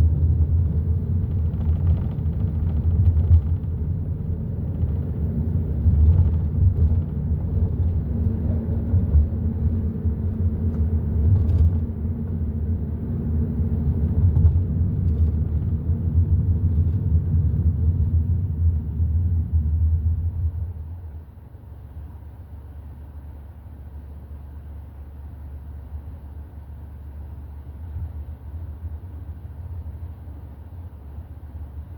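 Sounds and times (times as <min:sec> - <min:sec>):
car engine and tyre rumble: 0:00.0 - 0:31.9.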